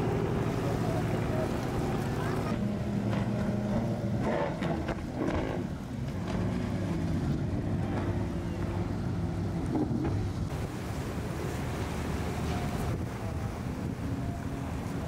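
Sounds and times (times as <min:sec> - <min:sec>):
outboard engine running fast: 0:00.0 - 0:15.0.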